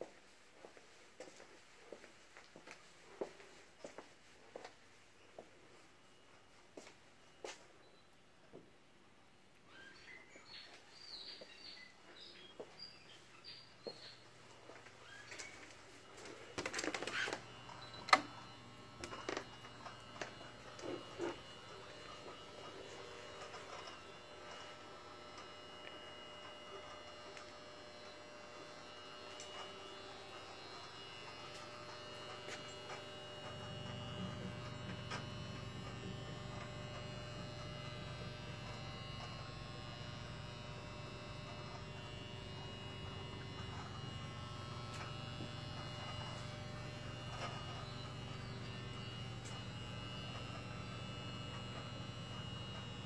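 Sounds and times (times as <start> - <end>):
mechanical equipment humming: 9.6 - 53.0.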